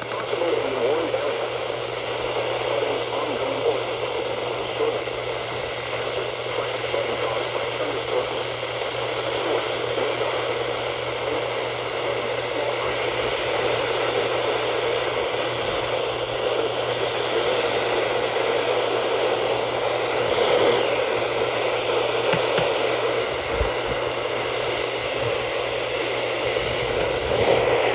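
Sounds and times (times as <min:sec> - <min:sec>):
low steady hum: 0:00.0 - 0:27.9
radio static hiss: 0:00.0 - 0:27.9.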